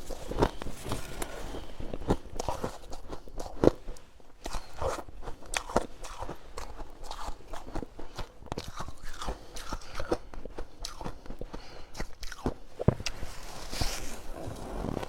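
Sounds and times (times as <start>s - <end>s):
chewing crunchy frost: 0.0s - 15.0s.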